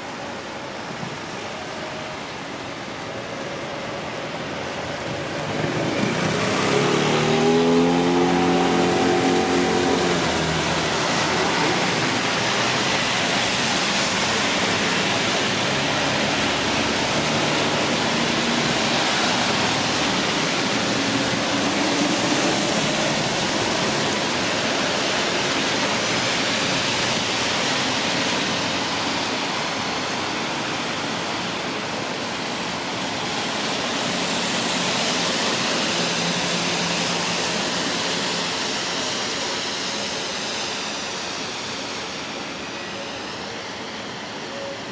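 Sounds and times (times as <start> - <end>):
passing traffic hum: 0.0 - 44.9
rain falling on a street: 0.0 - 44.9.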